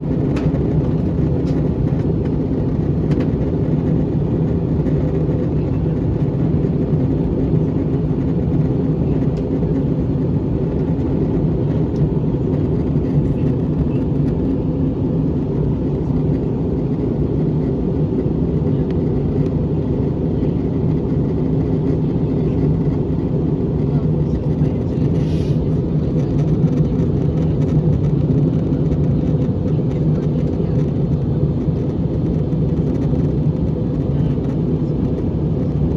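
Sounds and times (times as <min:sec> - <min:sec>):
airplane cabin engine drone: 0:00.0 - 0:35.9.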